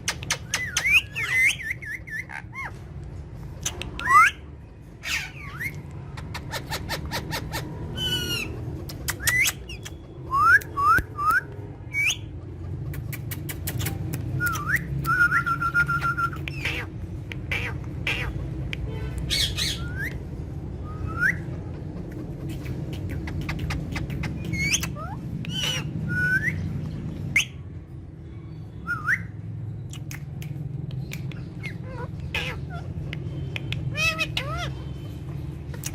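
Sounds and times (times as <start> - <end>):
parrots squawking and whistling: 0.0 - 27.6, 28.8 - 30.2, 31.2 - 35.9.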